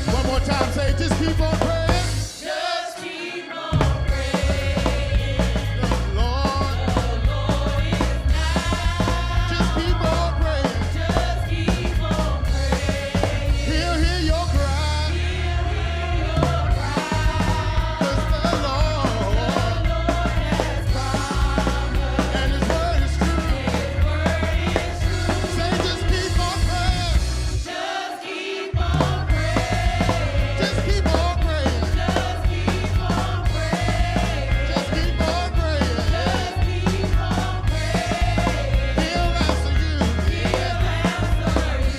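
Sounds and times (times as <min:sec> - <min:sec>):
heavy bass line: 0:00.0 - 0:02.4, 0:03.8 - 0:27.7, 0:28.8 - 0:41.9
drums: 0:00.0 - 0:41.9
gospel band playing: 0:00.0 - 0:41.9.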